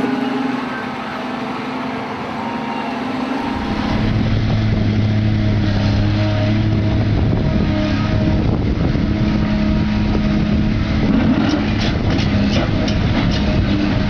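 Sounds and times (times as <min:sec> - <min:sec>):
heavy machinery engines running: 0:00.0 - 0:14.0.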